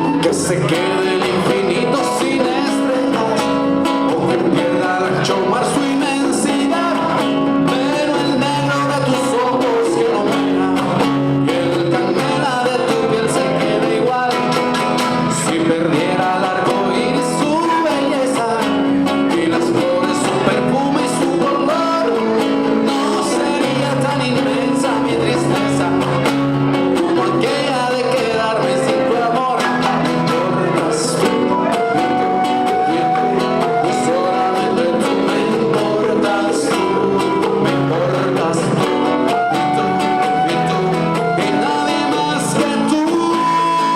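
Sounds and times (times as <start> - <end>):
percussion: 0.0 - 43.9
person singing: 0.0 - 43.9
plucked guitar: 0.0 - 43.9.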